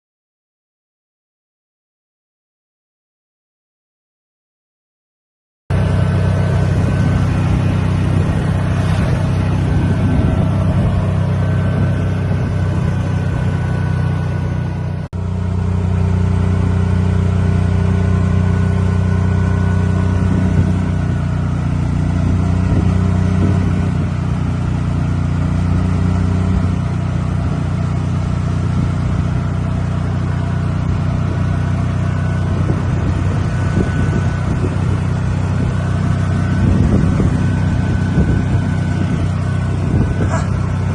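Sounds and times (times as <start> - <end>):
vehicle engine drone: 5.7 - 40.9.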